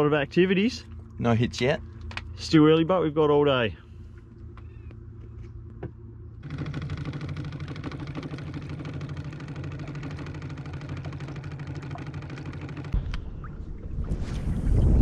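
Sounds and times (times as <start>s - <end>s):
electric trolling motor running: 0.0s - 13.0s.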